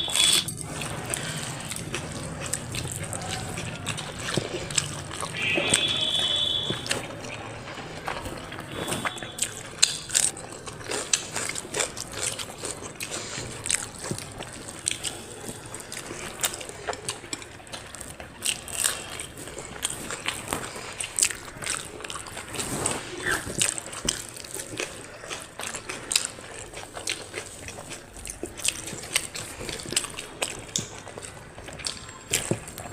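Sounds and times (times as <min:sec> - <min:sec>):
chewing: 0:00.0 - 0:32.9
wet squishing of food mixed by hand: 0:00.0 - 0:32.9.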